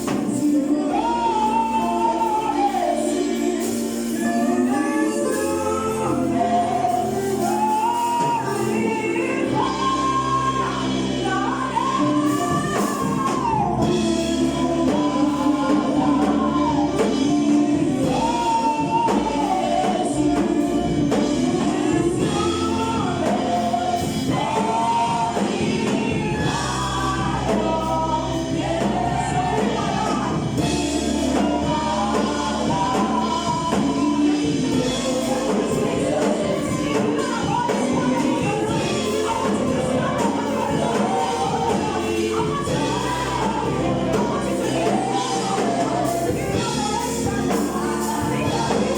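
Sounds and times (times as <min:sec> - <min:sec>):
choir singing gospel: 0:00.0 - 0:48.9
steady bass line: 0:00.0 - 0:48.9.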